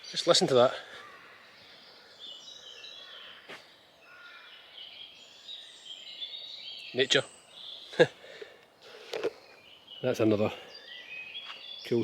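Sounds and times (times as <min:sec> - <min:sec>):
birds warbling: 0:00.0 - 0:12.0.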